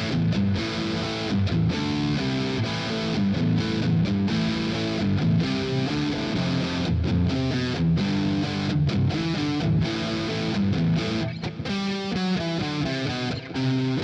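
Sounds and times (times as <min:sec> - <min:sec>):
electric guitar through amplifier: 0:00.0 - 0:14.0.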